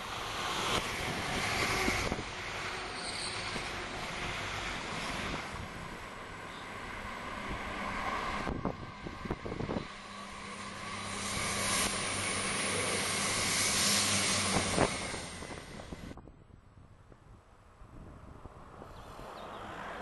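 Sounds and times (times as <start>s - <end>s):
passing train rushing: 0.0s - 16.2s.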